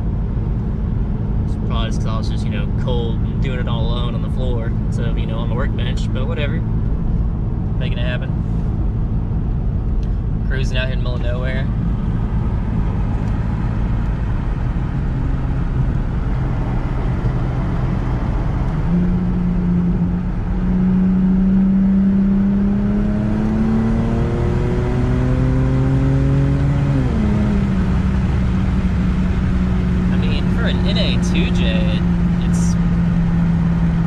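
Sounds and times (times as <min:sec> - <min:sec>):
car exhaust rumbling: 0:00.0 - 0:34.0.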